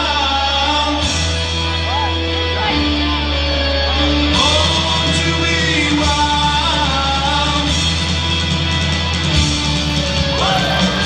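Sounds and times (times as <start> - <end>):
loud rock music with guitar: 0.0 - 11.0.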